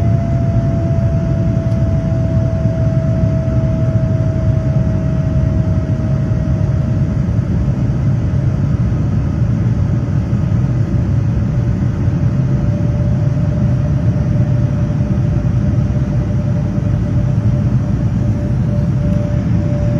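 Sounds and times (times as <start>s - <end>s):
faint steady whine: 0.0s - 19.9s
jet engine and airflow rumble: 0.0s - 19.9s.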